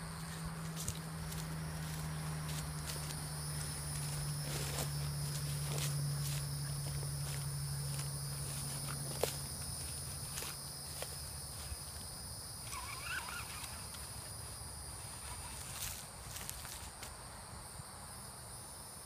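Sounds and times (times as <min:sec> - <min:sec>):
footsteps through grass and sand: 0:00.0 - 0:17.4
high insect drone: 0:00.0 - 0:19.0.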